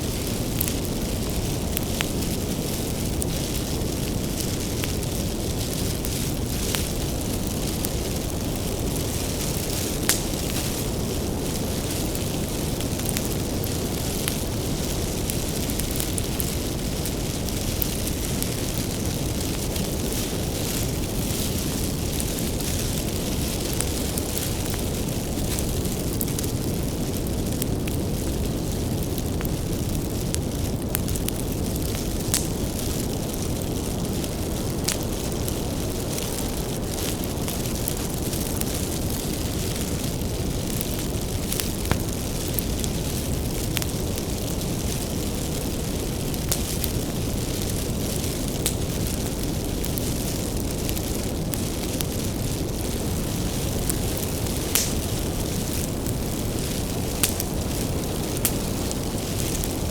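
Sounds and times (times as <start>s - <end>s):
fire roaring: 0.0s - 59.9s
firewood crackling and popping: 0.0s - 59.9s.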